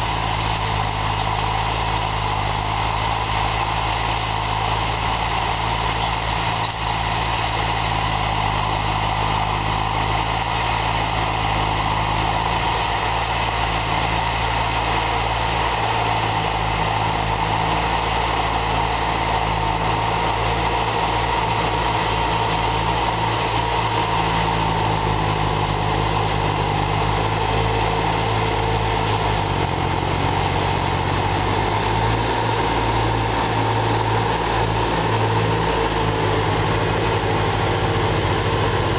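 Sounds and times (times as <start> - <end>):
tractor diesel engines under load: 0.0 - 38.9.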